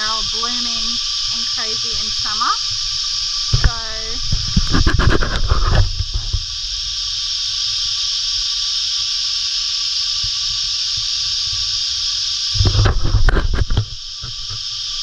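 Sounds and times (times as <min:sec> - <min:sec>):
cicada chorus: 0:00.0 - 0:15.0.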